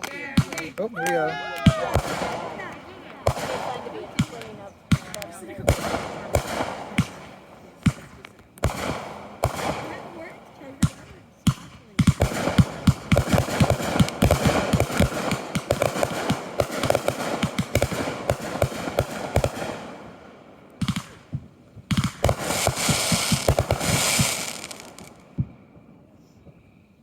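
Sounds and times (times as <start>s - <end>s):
fireworks crackling pops: 0.0s - 20.0s, 20.7s - 25.6s.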